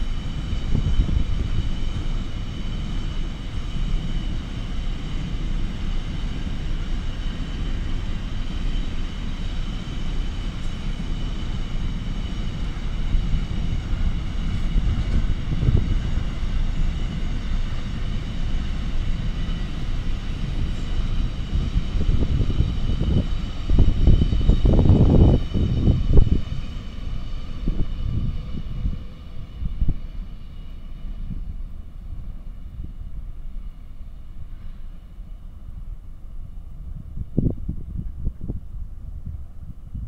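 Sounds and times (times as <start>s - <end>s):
freight train rumbling past: 0.0s - 40.0s.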